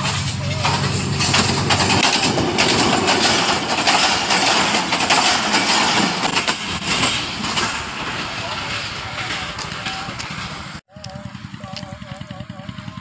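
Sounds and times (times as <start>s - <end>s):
rapid clattering of wheels: 0.0s - 13.0s
train wheels rushing on rails: 0.0s - 13.0s.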